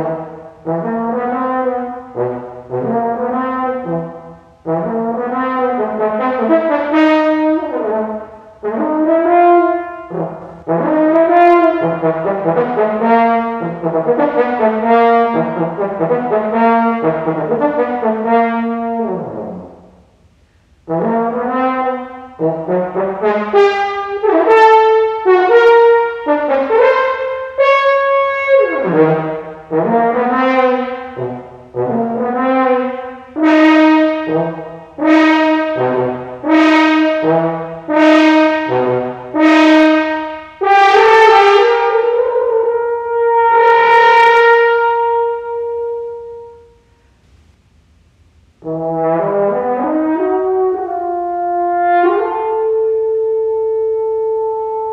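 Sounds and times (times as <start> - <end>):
solo french horn: 0.0 - 47.6, 48.3 - 54.9.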